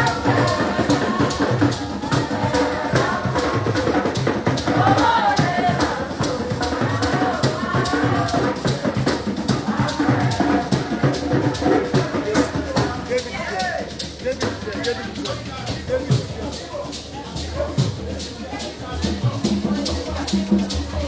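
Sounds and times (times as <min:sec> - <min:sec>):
drums and shaker beat: 0:00.0 - 0:21.0.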